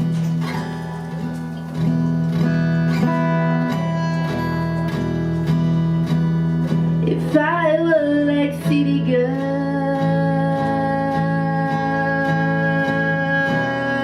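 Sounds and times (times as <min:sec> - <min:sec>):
guitar strummed: 0:00.0 - 0:14.0.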